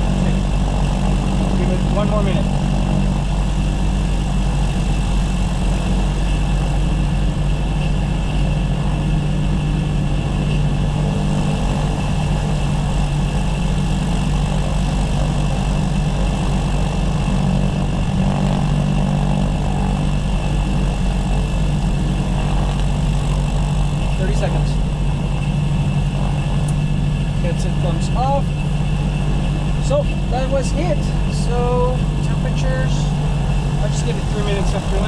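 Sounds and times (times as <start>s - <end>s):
airplane engine idling: 0.0s - 35.0s.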